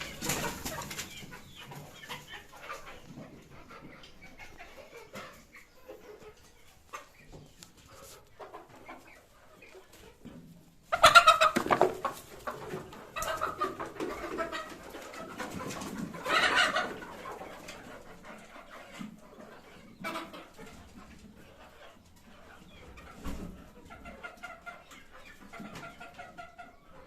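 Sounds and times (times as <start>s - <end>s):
chickens clucking and squawking: 0.0s - 27.0s.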